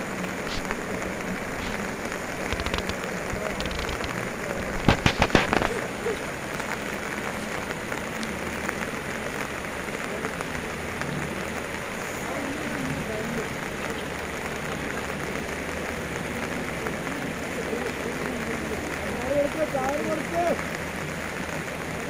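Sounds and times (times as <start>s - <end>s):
fast-flowing river: 0.0s - 22.0s
heavy rain hissing: 0.0s - 22.0s.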